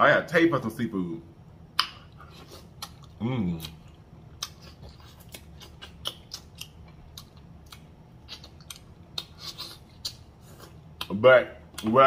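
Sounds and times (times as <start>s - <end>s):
person chewing and lip smacking: 1.7s - 12.0s.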